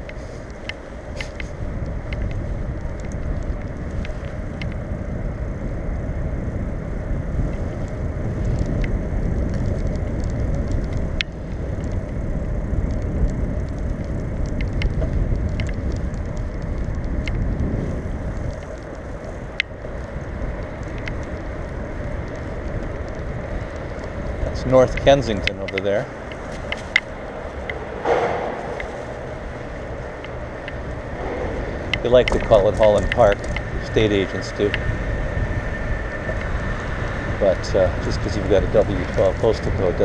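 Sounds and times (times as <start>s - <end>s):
bicycle rolling on pavement: 0.0s - 40.0s
bike clicks: 0.0s - 40.0s
wind on microphone: 0.0s - 40.0s.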